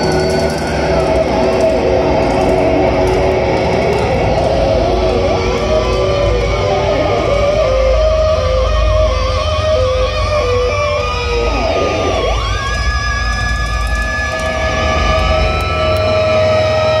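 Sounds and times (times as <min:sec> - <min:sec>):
distorted electric guitars: 0:00.0 - 0:17.0.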